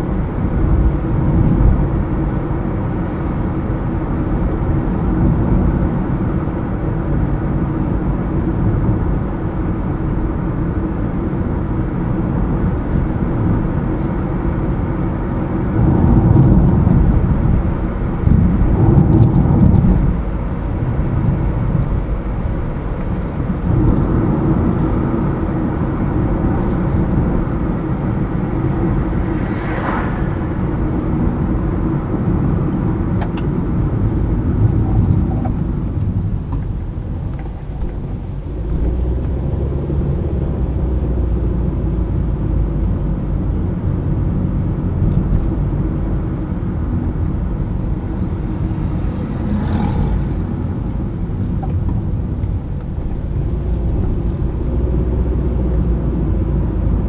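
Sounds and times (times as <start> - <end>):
car road and engine noise: 0.0 - 57.0
rushes of passing traffic: 0.0 - 57.0.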